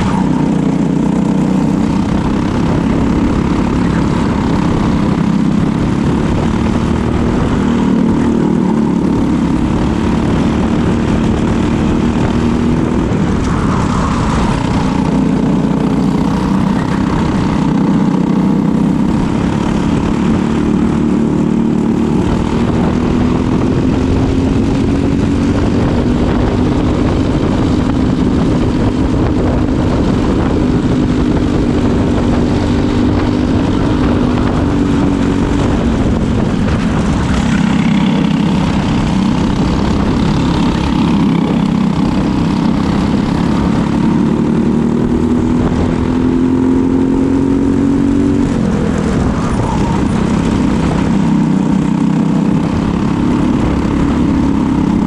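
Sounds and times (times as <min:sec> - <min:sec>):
kart engine running hard: 0:00.0 - 0:55.0.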